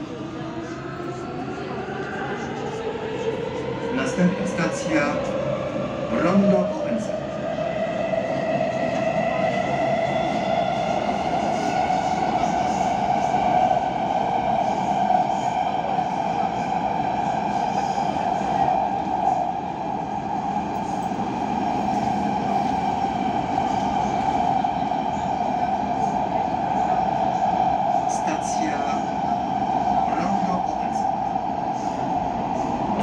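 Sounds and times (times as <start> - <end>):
train wheels rumbling in tunnel: 0.0 - 33.0.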